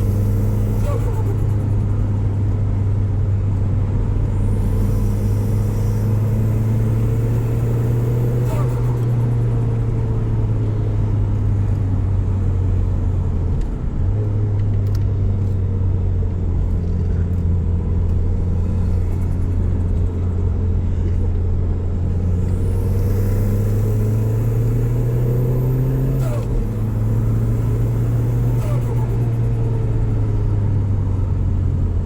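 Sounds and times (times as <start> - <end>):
car engine droning: 0.0 - 32.0.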